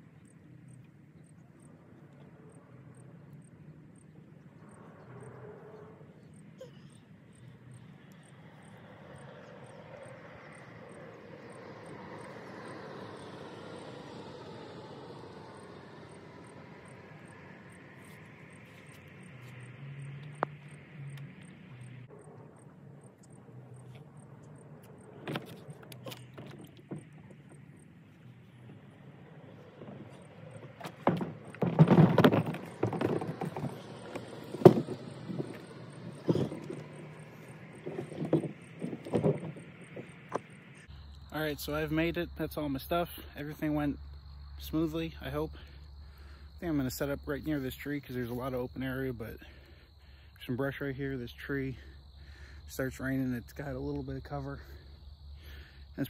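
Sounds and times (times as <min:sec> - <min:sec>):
distant engine drone: 0:00.0 - 0:56.0.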